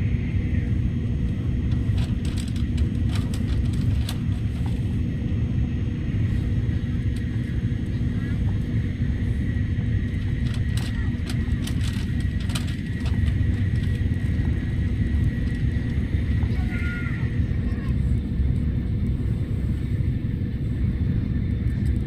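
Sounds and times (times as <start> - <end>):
faint steady whine: 0.0 - 22.0
train carriage rumble: 0.0 - 22.0.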